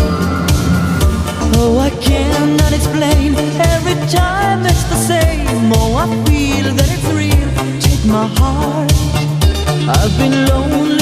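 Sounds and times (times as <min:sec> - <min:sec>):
pop song with singing and drums: 0:00.6 - 0:11.0.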